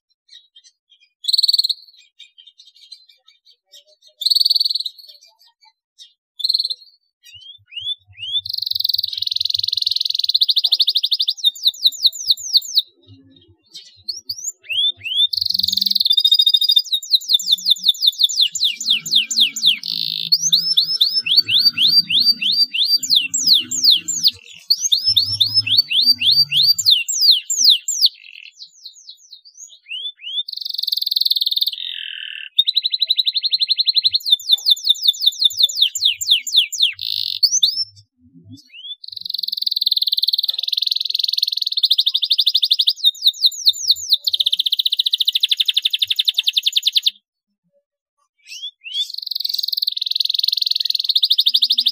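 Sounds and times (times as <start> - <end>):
canary singing trills: 0.1 - 47.2, 48.2 - 51.9.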